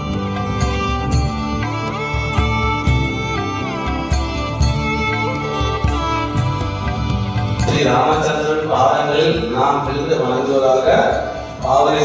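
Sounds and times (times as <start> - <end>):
steady beat: 0.0 - 11.7
music with held melody tones: 0.0 - 12.0.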